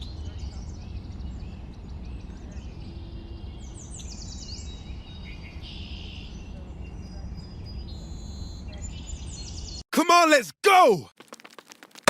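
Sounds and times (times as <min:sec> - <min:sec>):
birds chirping: 0:00.0 - 0:10.3.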